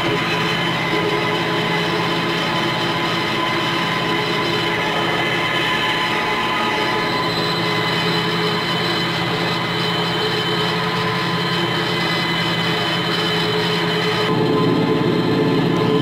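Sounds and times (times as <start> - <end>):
steady high tones: 0.0 - 16.0
tractor diesel engine running: 0.0 - 16.0.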